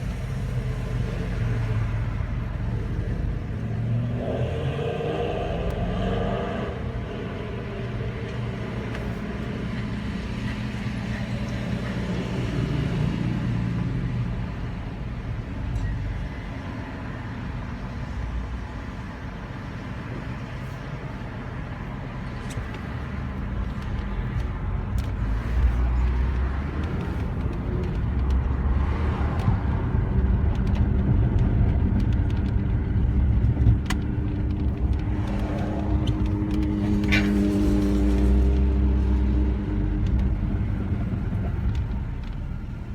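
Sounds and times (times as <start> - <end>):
car engine rumbling and grinding: 0.0 - 42.9.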